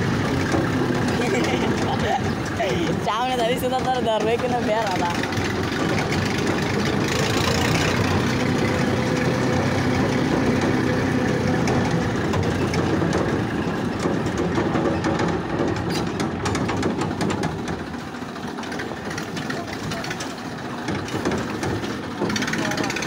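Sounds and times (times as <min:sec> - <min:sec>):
diesel engine chugging: 0:00.0 - 0:23.0.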